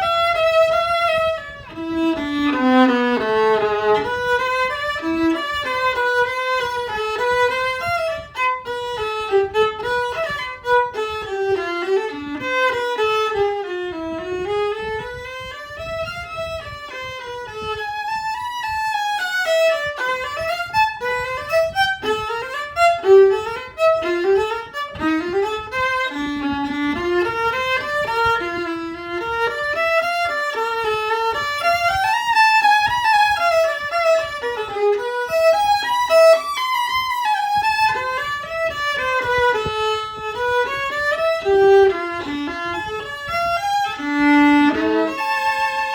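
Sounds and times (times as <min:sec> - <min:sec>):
solo violin melody: 0:00.0 - 0:45.9.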